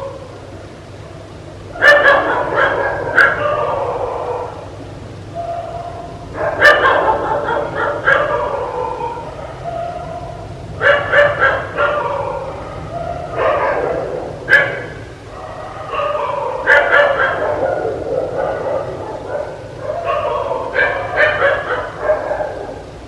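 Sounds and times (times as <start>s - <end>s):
dog barking: 1.0s - 4.7s, 5.3s - 22.9s.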